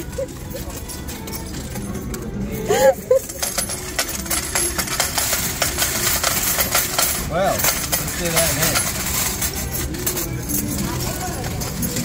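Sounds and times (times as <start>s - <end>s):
coins clattering into metal tray: 0.0s - 12.0s.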